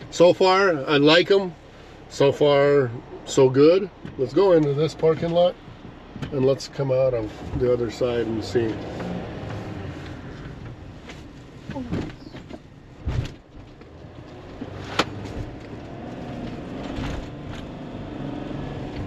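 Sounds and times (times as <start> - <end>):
van engine and road rumble: 0.0 - 19.0.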